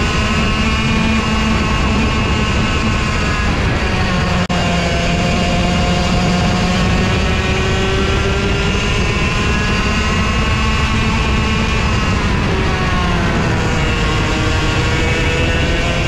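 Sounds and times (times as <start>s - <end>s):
kart engine running hard: 0.0s - 16.0s.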